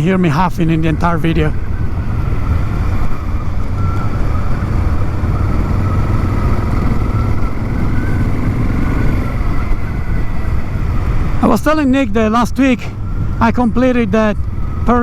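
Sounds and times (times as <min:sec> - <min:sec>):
motorcycle engine cruising: 0:00.0 - 0:15.0
road noise on gravel: 0:00.0 - 0:15.0.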